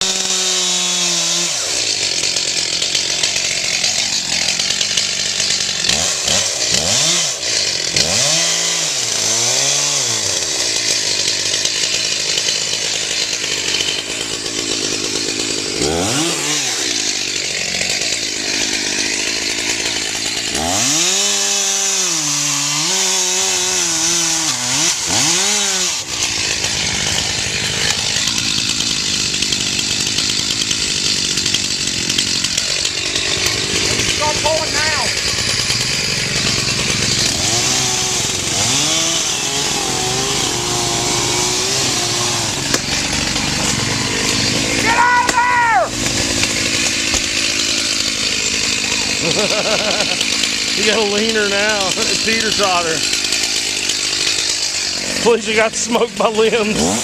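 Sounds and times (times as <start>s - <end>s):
chainsaw cutting into tree: 0.0s - 57.0s.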